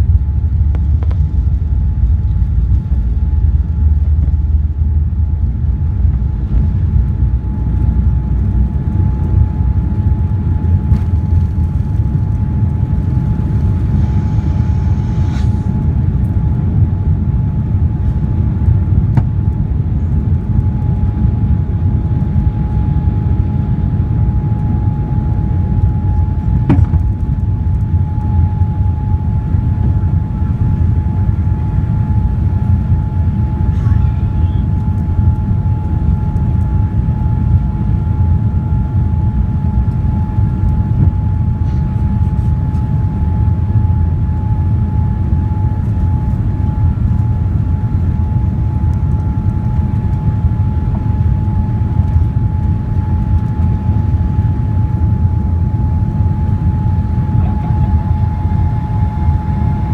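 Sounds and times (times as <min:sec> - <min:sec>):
cabin hum: 0:00.0 - 0:16.9, 0:19.1 - 0:45.5, 0:50.6 - 0:59.9
jet engines and airflow rumble: 0:00.0 - 0:59.9.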